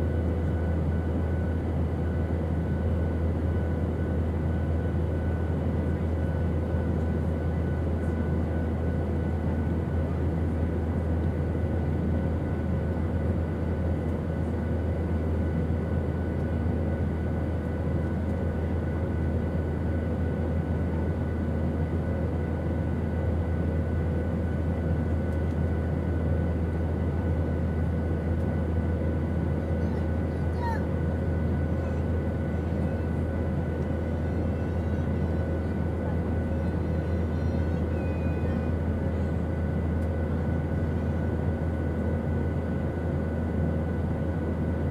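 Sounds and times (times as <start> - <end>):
airplane engine drone: 0.0 - 44.9.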